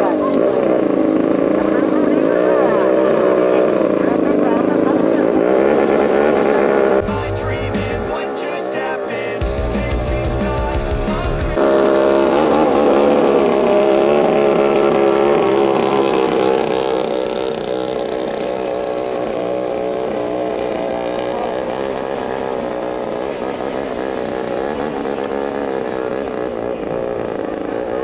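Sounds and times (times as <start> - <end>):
speedboat engine at high revs: 0.0 - 28.0.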